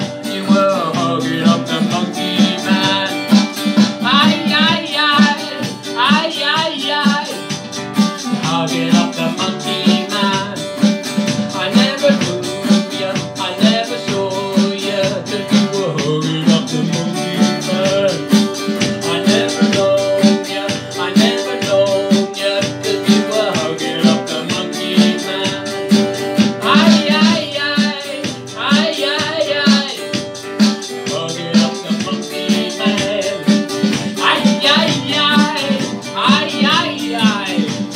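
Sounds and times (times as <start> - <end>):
drums keeping beat: 0.0 - 37.9
strummed acoustic guitar: 0.0 - 37.9.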